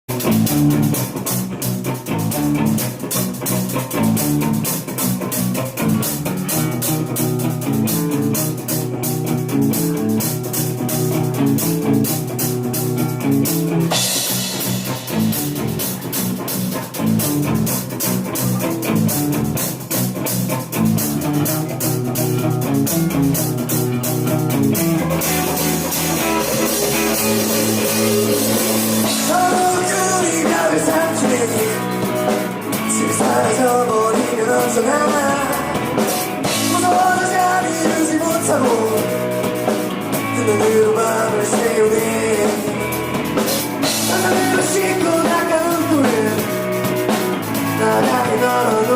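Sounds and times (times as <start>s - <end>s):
bass guitar: 0.0s - 48.9s
drum kit: 0.0s - 48.9s
guitar riff: 0.1s - 48.9s.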